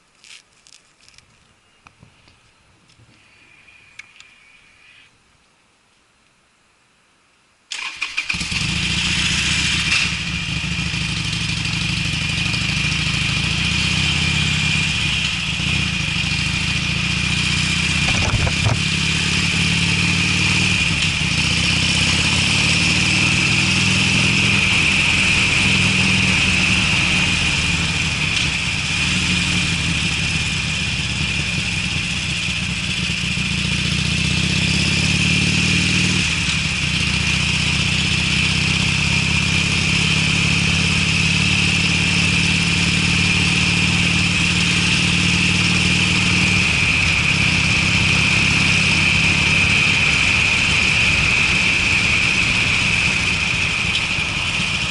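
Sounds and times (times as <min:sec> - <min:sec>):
motorcycle engine starting and idling: 0:07.7 - 0:54.9.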